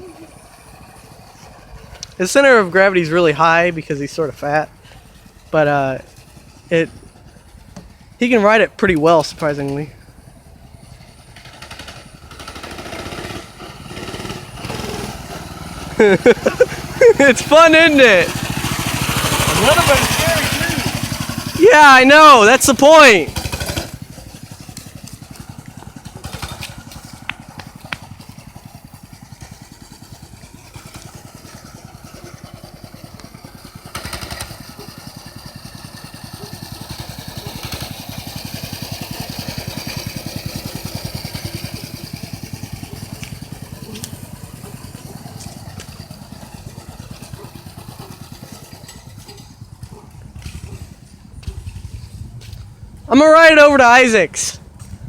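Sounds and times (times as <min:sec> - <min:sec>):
mini bike engine running: 0:00.0 - 0:55.0.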